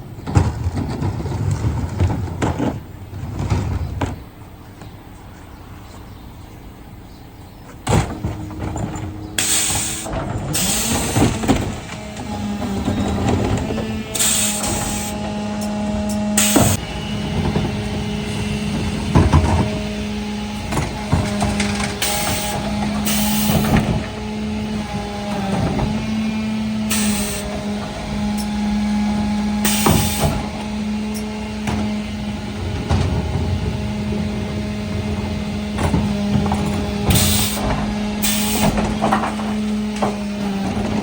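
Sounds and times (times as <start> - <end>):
truck engine and hydraulics humming: 0.0 - 41.0
wheelie bins knocking and clanking: 0.0 - 41.0.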